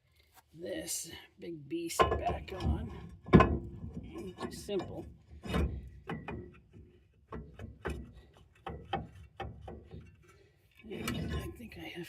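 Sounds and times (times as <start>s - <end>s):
metal knocks and clicks: 2.0s - 11.6s.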